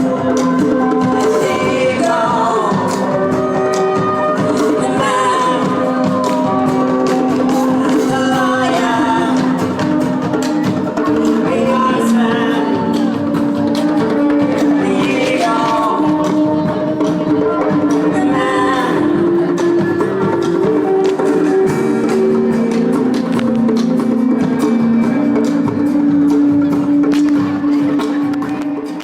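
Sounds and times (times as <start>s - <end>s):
person singing melody: 0.0s - 29.0s.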